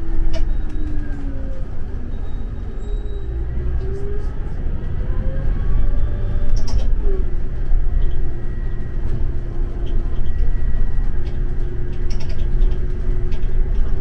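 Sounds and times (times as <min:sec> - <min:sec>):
coach interior rumble: 0:00.0 - 0:14.0.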